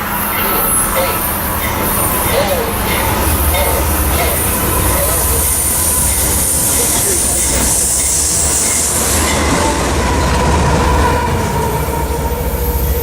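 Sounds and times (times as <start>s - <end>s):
high wheel squeal: 0.0s - 10.4s
freight train rumbling on rails: 0.0s - 13.0s.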